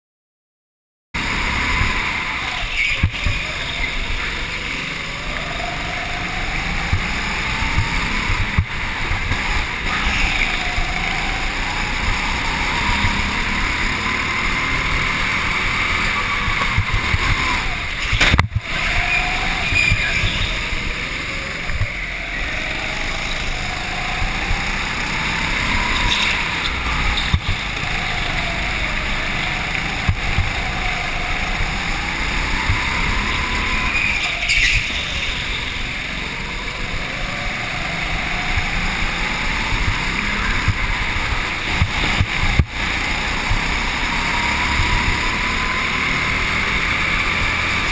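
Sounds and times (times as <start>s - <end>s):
go-kart engine: 1.2s - 47.9s.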